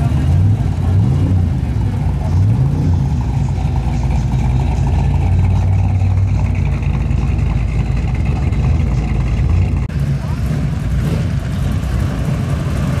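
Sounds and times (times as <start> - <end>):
pickup truck engine at low revs: 0.0 - 13.0.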